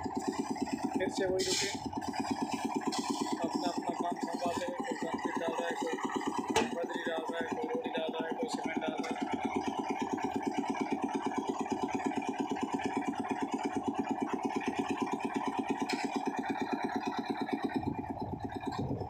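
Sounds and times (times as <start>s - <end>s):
concrete mixer engine running: 0.0s - 19.0s.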